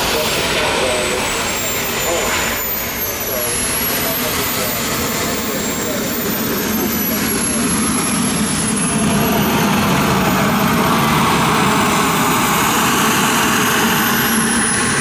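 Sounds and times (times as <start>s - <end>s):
model jet turbine whine: 0.0s - 15.0s.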